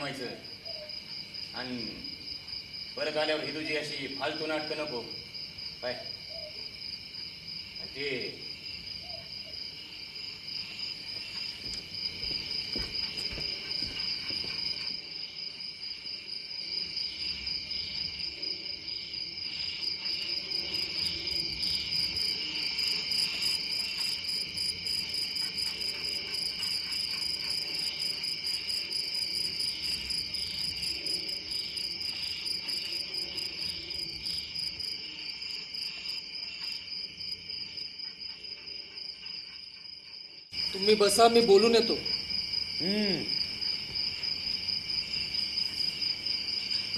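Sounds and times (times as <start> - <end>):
crickets chirping: 0.0 - 46.9
fast pulsing insect trill: 0.0 - 46.9.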